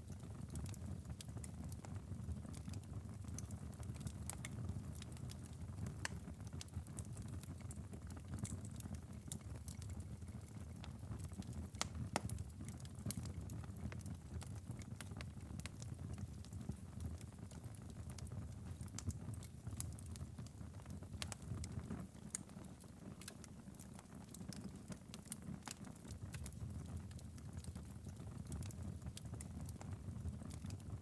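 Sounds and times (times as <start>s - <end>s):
fireplace fire crackling: 0.0s - 31.0s.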